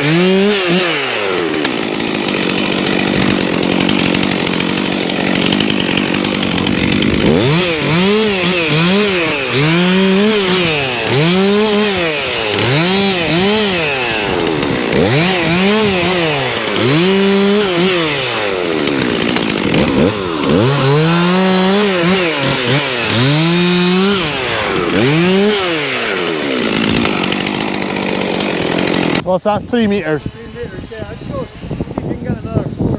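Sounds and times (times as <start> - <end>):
chainsaw revving: 0.0 - 32.9.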